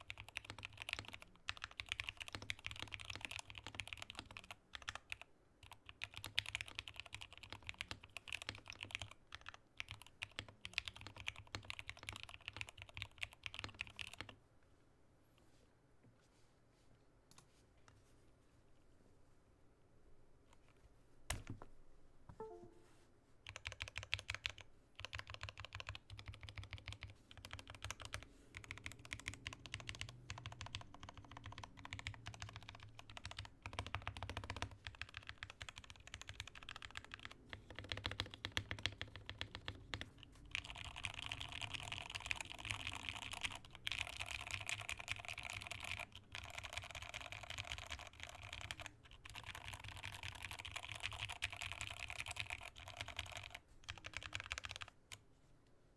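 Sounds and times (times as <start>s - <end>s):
fast mechanical keyboard typing: 0.0s - 14.4s, 23.5s - 55.0s.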